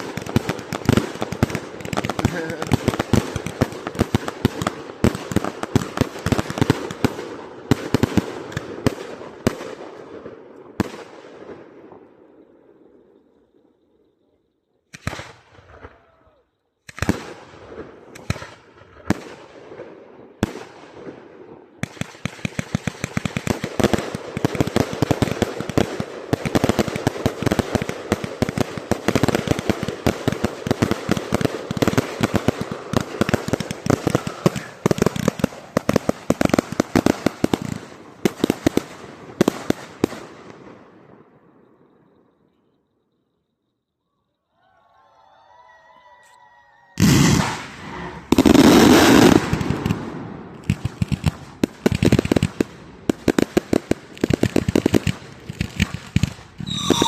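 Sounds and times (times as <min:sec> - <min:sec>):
rapid firework cracks and pops: 0:00.0 - 0:11.6, 0:14.9 - 0:16.2, 0:16.8 - 0:40.5, 0:47.0 - 0:57.0
firework bangs: 0:00.0 - 0:12.4, 0:16.8 - 0:40.8, 0:47.0 - 0:57.0.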